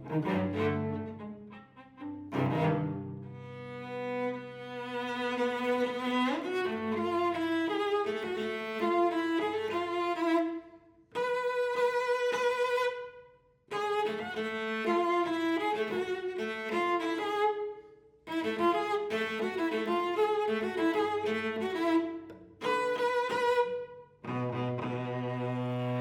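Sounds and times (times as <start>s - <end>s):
solo cello playing: 0.0s - 26.0s.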